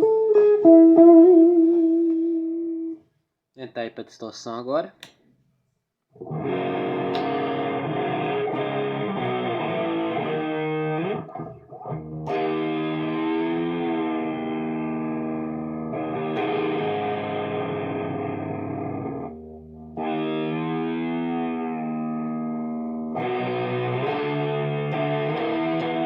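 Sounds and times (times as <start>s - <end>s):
distorted electric guitar chords: 0.0s - 3.0s, 6.2s - 26.0s.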